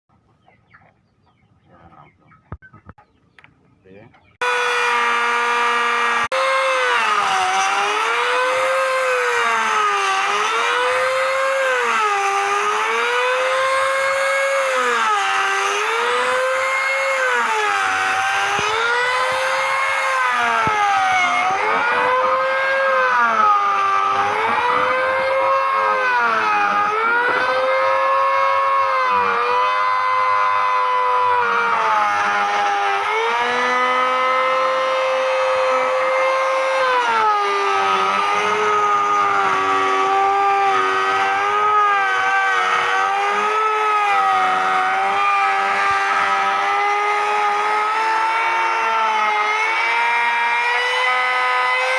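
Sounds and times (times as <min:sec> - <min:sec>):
power tool motor whining: 0:04.4 - 0:51.9.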